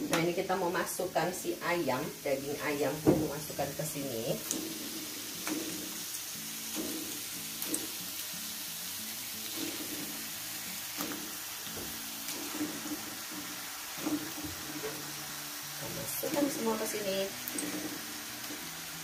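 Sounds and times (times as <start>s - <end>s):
spice paste sizzling in a wok: 0.0s - 19.0s.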